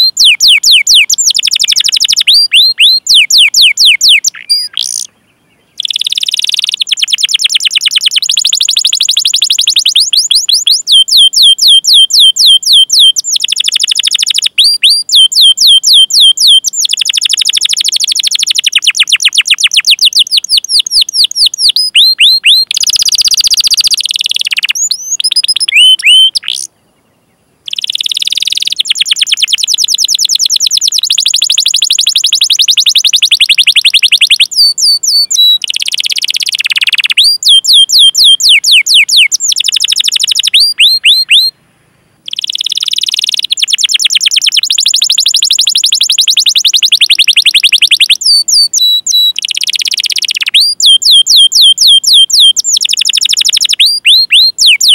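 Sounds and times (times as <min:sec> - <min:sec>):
canary singing trills: 0:00.0 - 0:41.6, 0:42.2 - 0:54.9.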